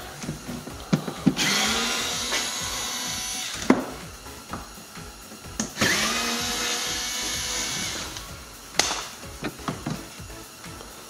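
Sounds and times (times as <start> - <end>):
screwdriver motor whine: 0.0 - 11.0.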